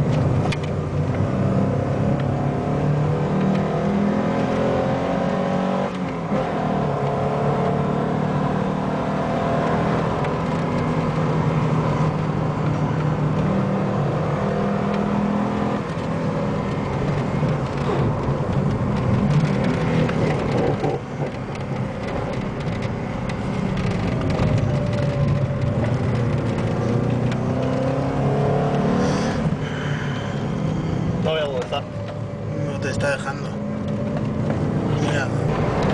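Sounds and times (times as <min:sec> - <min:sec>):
car engine running hard: 0:00.0 - 0:35.9.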